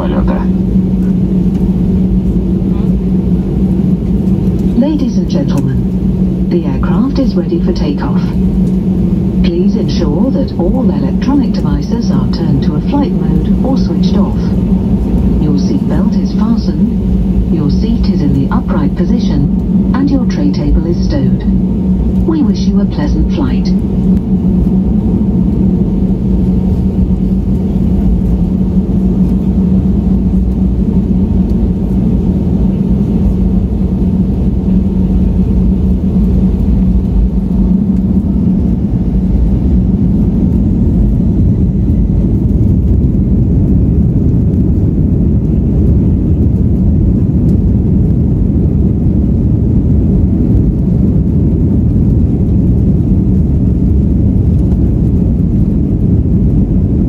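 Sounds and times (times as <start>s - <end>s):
jet engine rumble in cabin: 0.0s - 57.0s
low hum: 0.0s - 57.0s.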